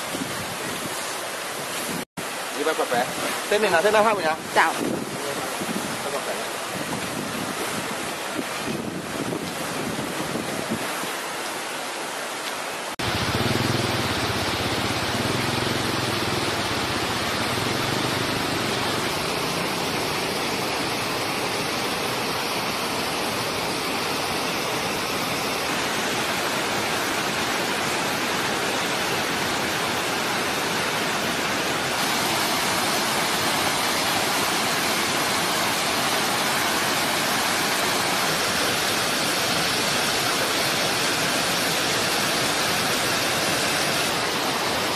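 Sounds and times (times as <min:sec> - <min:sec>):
rushing floodwater: 0:00.0 - 0:44.9.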